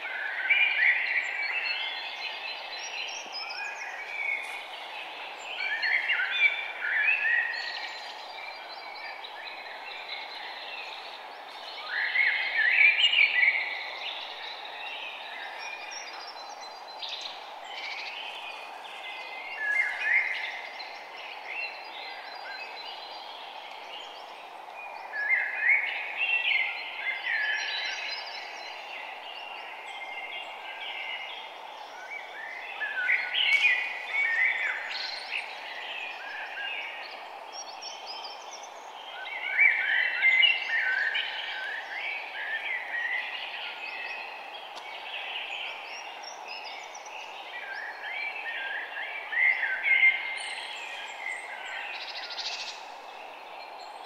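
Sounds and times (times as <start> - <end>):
small birds chirping: 0.0 - 54.0
steady background noise: 0.0 - 54.0.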